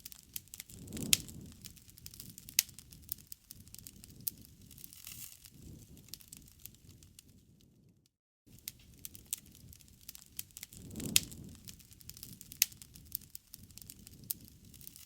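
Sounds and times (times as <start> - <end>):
bonfire crackling and popping: 0.0 - 15.0
low rumble of flames: 0.0 - 15.0.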